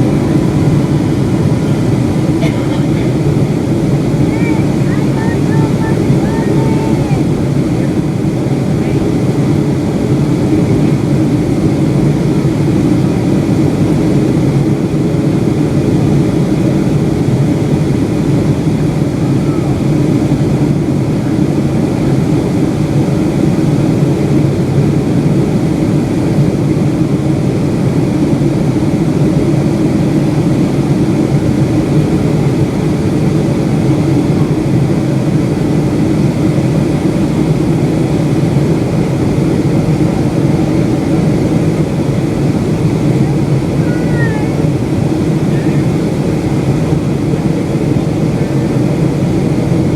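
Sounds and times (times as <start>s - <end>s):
airplane cabin engine and airflow rush: 0.0s - 49.9s.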